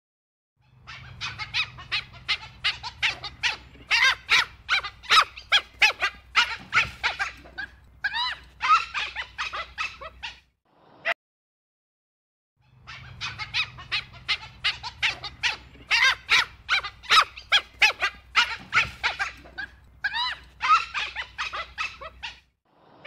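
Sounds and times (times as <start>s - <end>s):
wild dog yelping whistles: 0.7s - 10.5s, 12.8s - 22.5s.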